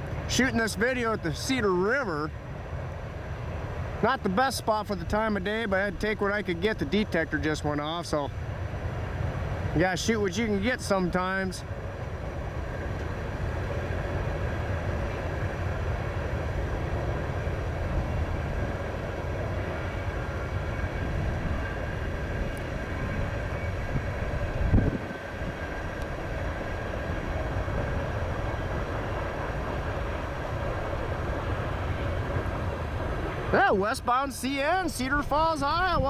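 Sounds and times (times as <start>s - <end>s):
steel wheels rumbling on rail: 0.0s - 36.0s.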